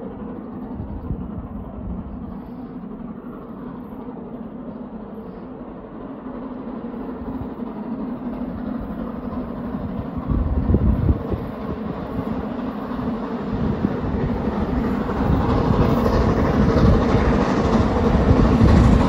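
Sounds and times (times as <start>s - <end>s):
steam locomotive rumble: 0.0s - 19.0s.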